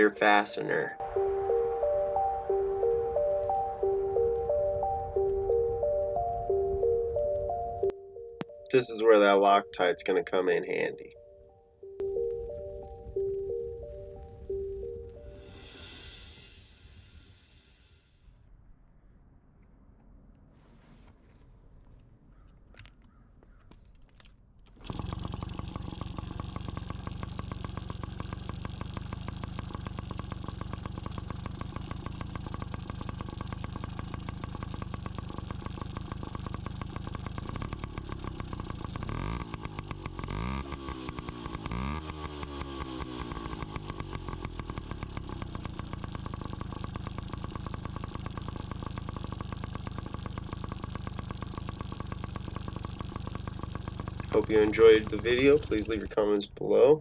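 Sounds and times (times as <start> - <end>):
two-stroke engine idling: 0.0 - 18.0, 24.7 - 57.0
engine throttle blips: 0.0 - 18.8, 24.6 - 57.0.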